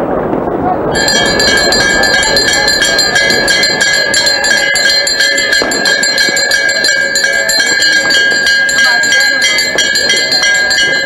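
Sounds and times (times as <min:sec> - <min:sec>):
metal bell ringing rapidly: 0:00.9 - 0:11.0.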